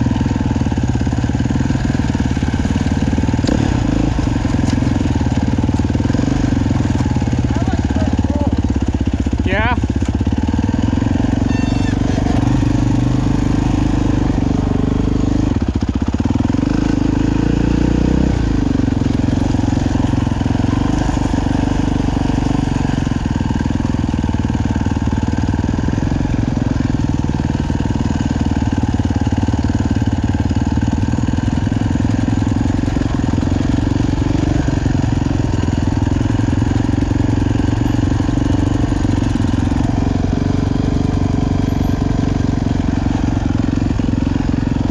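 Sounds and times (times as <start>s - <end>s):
atv engines: 0.0s - 44.9s
dirt bike engine running: 0.0s - 44.9s.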